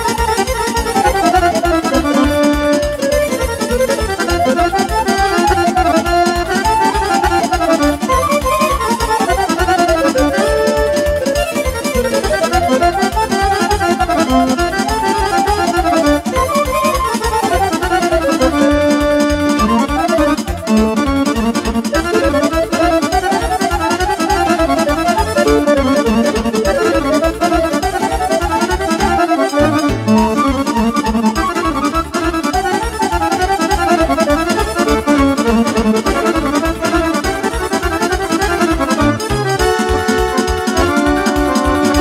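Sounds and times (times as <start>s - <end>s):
accordion melody: 0.0s - 42.0s
keyboards: 0.0s - 42.0s
quick steady beat: 0.0s - 42.0s.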